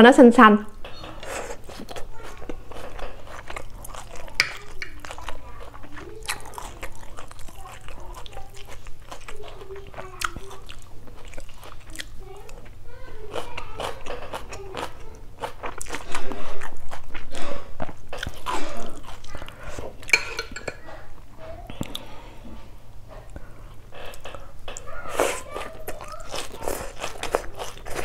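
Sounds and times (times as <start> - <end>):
chewing and crunching: 0.9 - 22.2, 23.1 - 28.0.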